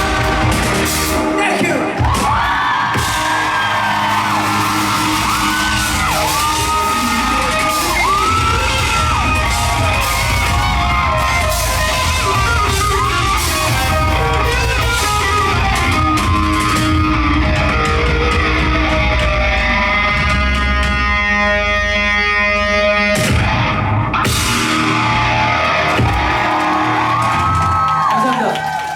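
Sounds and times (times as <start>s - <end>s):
live rock band playing: 0.0s - 28.1s.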